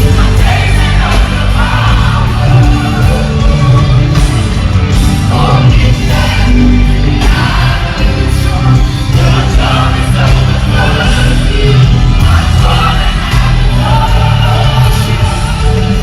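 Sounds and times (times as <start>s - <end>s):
band with bass and drums: 0.0s - 16.0s
singing: 0.0s - 16.0s.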